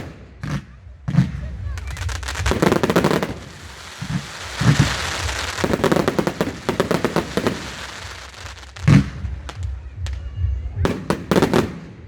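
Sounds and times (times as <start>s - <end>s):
fireworks crackling: 0.0s - 10.2s, 10.9s - 12.0s
fireworks bangs: 0.0s - 12.0s.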